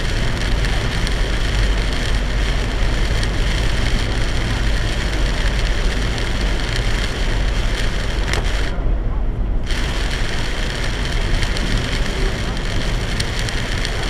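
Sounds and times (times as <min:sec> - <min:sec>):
heavy rain on car: 0:00.0 - 0:08.8, 0:09.6 - 0:14.0
tyre and road rumble: 0:00.0 - 0:14.0.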